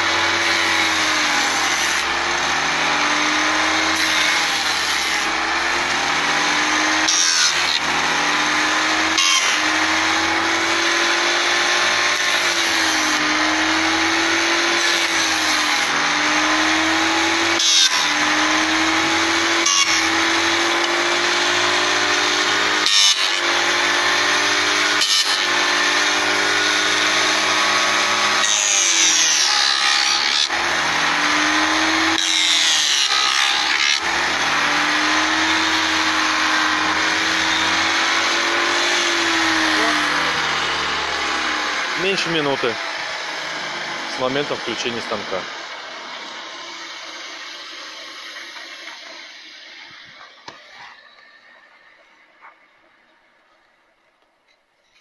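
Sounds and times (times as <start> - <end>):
sharp cutting noises: 0.0 - 51.4
woodworking machine motor running: 0.0 - 52.7.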